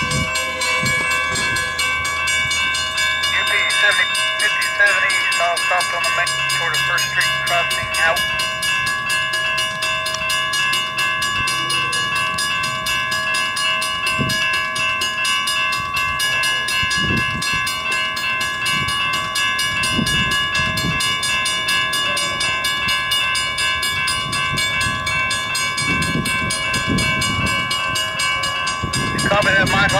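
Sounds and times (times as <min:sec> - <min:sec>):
high ringing tones: 0:00.0 - 0:29.9
train cars rolling: 0:00.0 - 0:29.9.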